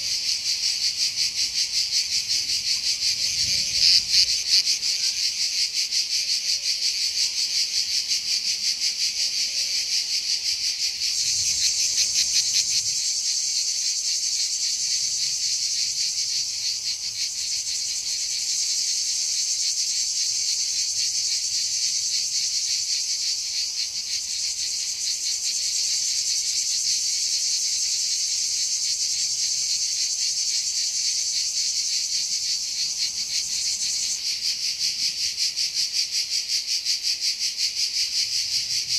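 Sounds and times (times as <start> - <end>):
insect chorus shrill buzz: 0.0 - 38.9.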